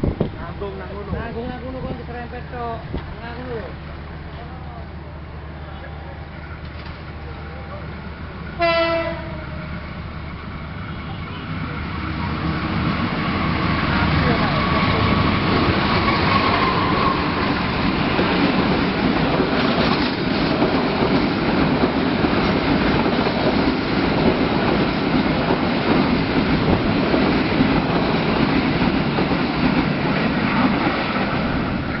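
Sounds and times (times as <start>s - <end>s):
train wheels rushing on rails: 0.0s - 32.0s.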